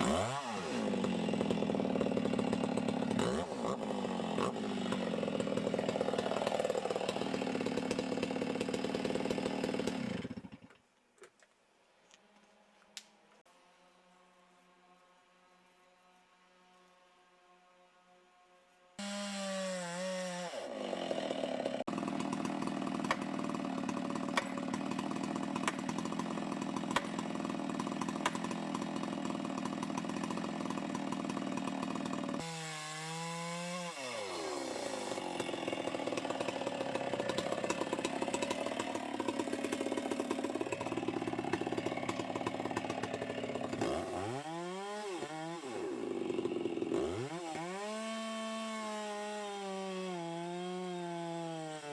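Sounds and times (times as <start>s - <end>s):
chainsaw idling: 0.0s - 10.7s, 19.0s - 51.4s
chainsaw cutting wood: 0.0s - 10.8s, 19.0s - 51.9s.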